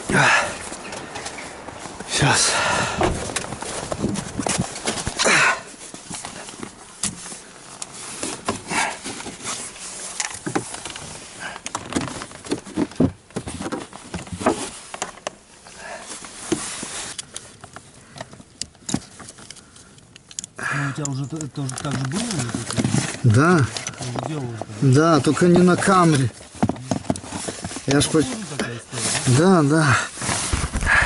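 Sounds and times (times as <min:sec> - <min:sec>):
handling noise: 0:00.0 - 0:31.0.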